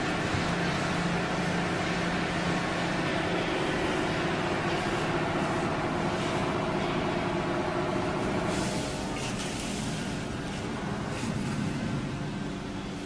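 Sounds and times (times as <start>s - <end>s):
hydraulic pump hum with whine: 0.0s - 13.0s.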